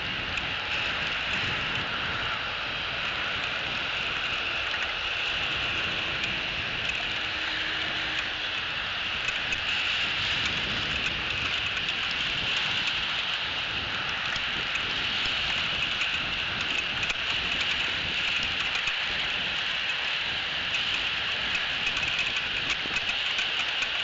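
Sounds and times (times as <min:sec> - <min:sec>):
rain falling: 0:00.0 - 0:24.0
raindrop ticks: 0:00.1 - 0:24.0.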